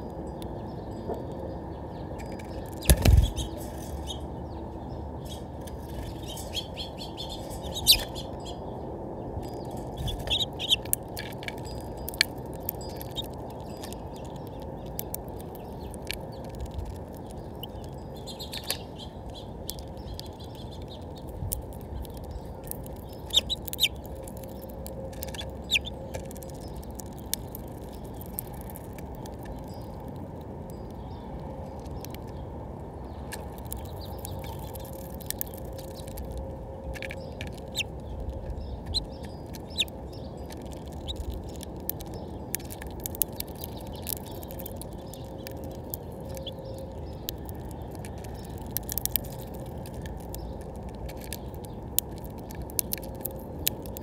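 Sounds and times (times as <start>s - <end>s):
birds chirping: 0.0s - 54.0s
bills cracking seeds: 2.2s - 4.3s, 5.2s - 8.5s, 9.4s - 32.4s, 33.1s - 54.0s.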